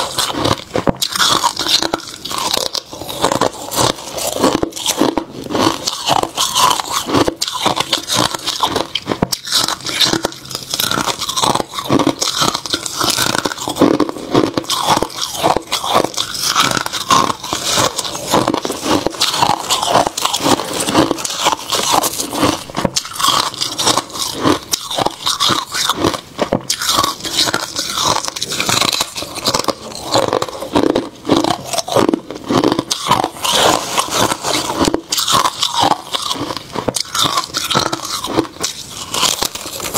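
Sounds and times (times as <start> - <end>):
icy crunches of chewing frost: 0.0 - 39.9.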